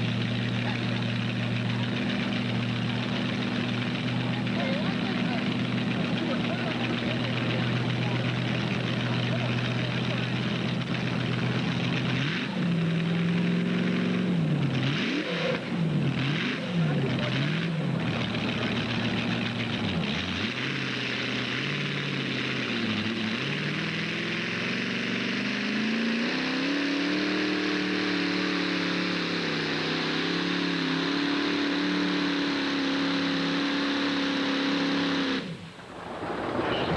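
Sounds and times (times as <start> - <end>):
tractor engine revving: 0.0 - 36.9.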